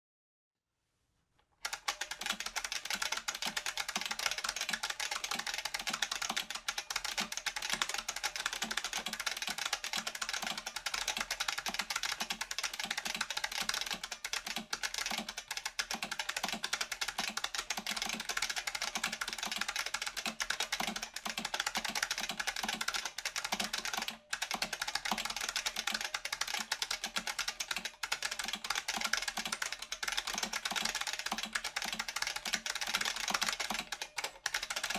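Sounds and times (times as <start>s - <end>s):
fast clicky keyboard typing: 1.6s - 34.9s.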